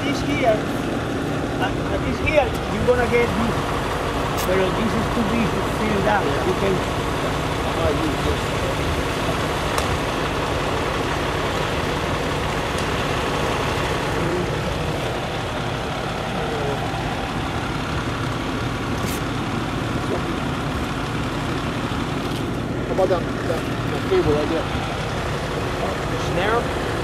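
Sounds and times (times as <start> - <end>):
fire engine idling: 0.0 - 27.0.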